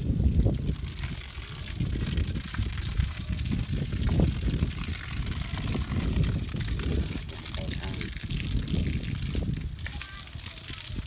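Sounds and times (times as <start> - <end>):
hose water splashing on concrete: 0.0 - 11.0.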